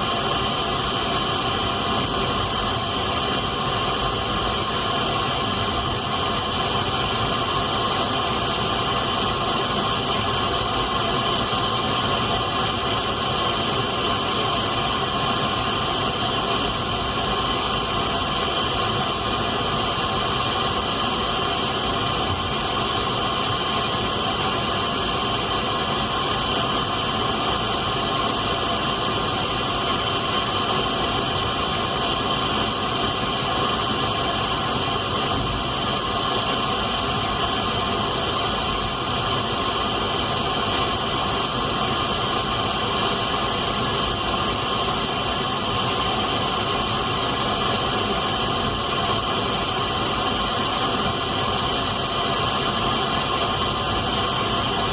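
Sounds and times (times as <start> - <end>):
radio static hiss: 0.0 - 54.9.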